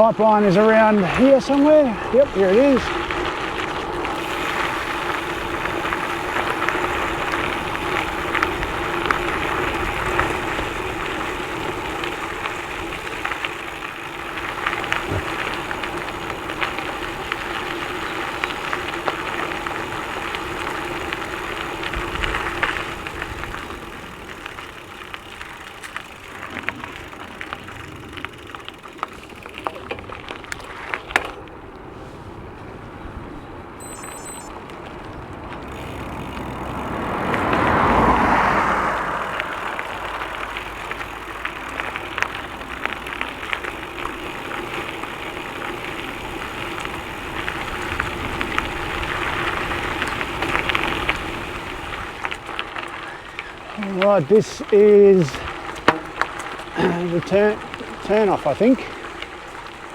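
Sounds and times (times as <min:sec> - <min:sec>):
bike tyres crunching on gravel: 0:00.0 - 0:59.9.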